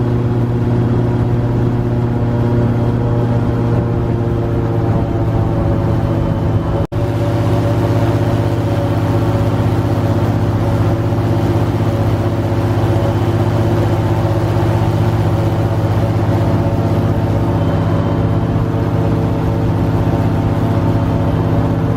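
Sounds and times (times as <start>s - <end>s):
airboat engine and propeller drone: 0.0s - 21.9s.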